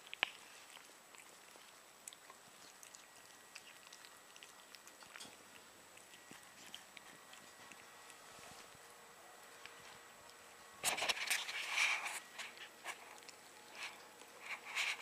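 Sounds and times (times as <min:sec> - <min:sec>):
cats chewing food: 0:00.0 - 0:15.0.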